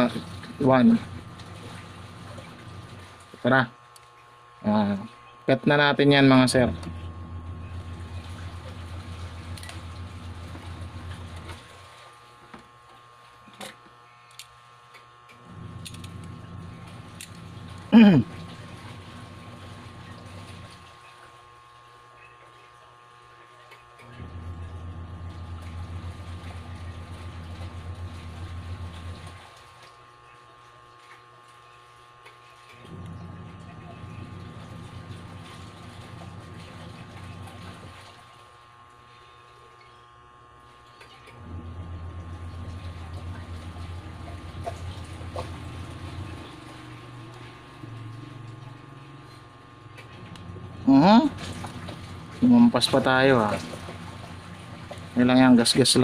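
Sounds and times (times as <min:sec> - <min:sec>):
motor humming: 0:00.0 - 0:56.0.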